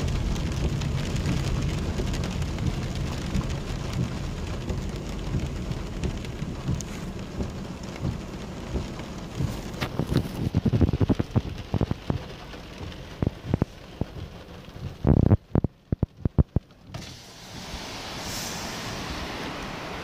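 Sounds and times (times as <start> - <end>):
heavy rain on vehicle: 0.0 - 20.0
low rumble: 0.0 - 20.0.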